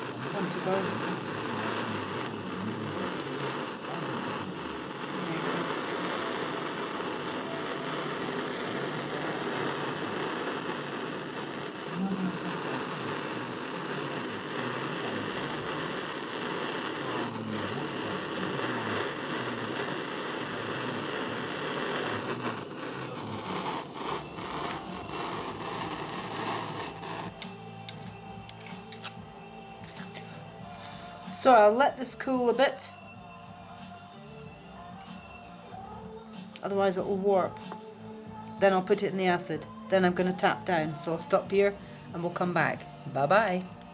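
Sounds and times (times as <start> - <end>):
gas torch flame hissing: 0.0 - 32.9, 33.7 - 43.9.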